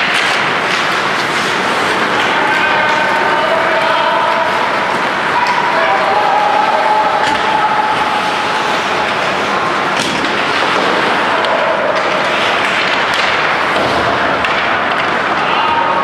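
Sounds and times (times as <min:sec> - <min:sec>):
arena noise: 0:00.0 - 0:16.0
skates on ice: 0:00.0 - 0:16.0.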